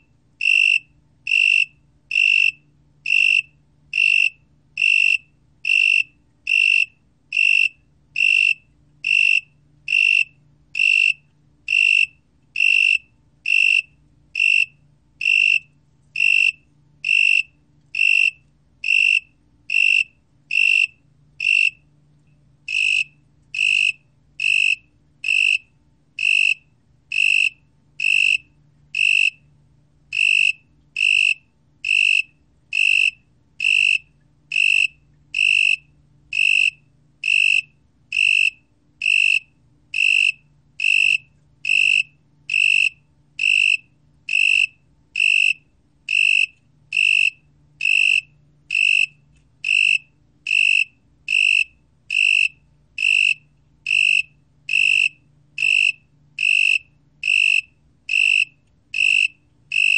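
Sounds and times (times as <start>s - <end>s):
tree cricket chirping: 0.4s - 21.9s, 22.7s - 29.5s, 30.1s - 59.9s.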